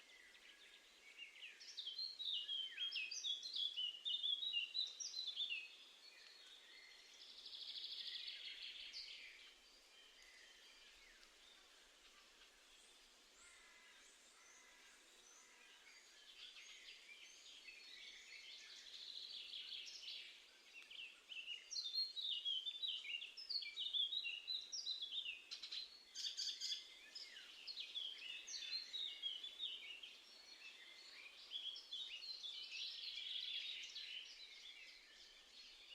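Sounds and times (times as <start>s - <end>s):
songbirds chirping and trilling: 0.0s - 35.9s.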